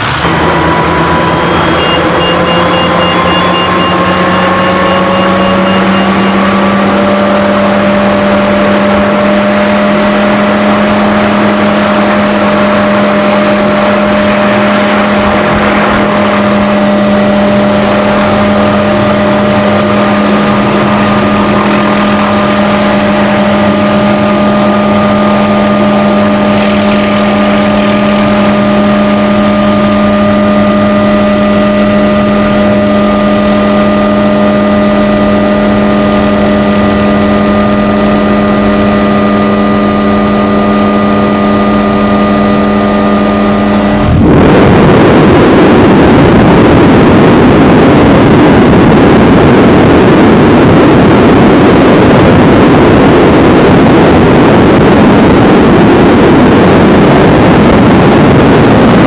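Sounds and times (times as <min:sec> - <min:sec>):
helicopter turbine whine: 0:00.0 - 0:59.0.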